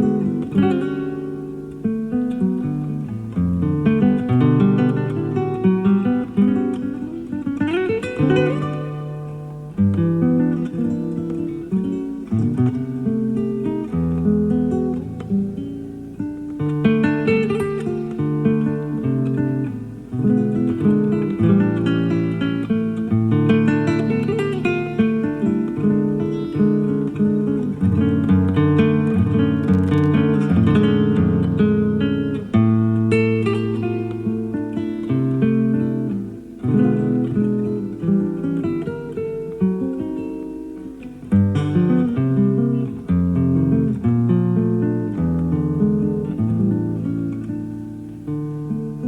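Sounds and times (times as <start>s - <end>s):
classical guitar playing: 0.0s - 49.0s.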